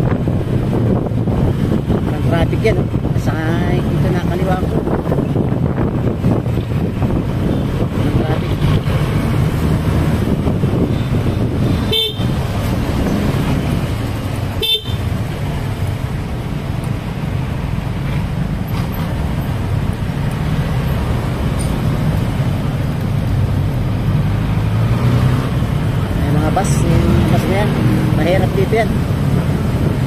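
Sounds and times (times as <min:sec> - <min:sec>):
motorcycle engine and road rumble: 0:00.0 - 0:30.0.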